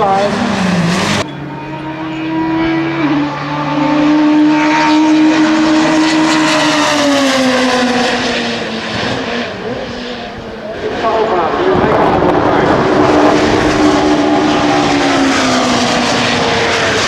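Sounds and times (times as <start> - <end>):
racing car engine at high revs: 0.0 - 17.0.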